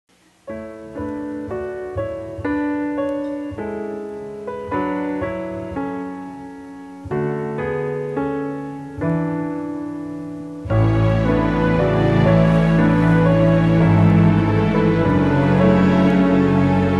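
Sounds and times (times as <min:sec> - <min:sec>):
fuller accompaniment with bass: 0:00.1 - 0:16.9
slow gentle piano music: 0:00.1 - 0:16.9.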